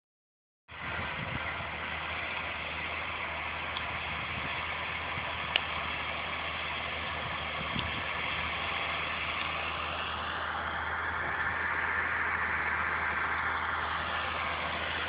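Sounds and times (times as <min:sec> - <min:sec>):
tractor engine running: 0:00.7 - 0:15.0.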